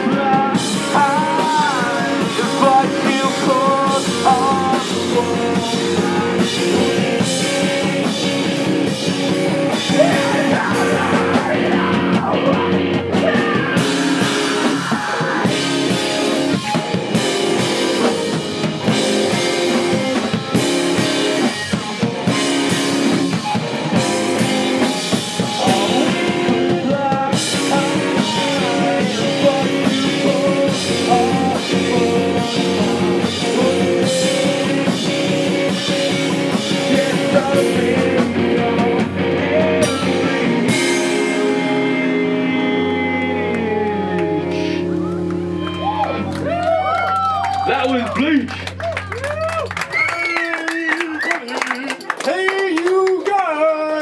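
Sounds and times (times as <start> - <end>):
live rock band: 0.0 - 53.2.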